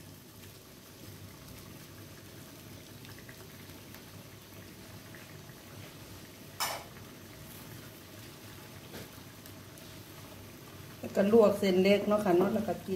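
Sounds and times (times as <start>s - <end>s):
sauce bubbling: 0.0s - 12.9s.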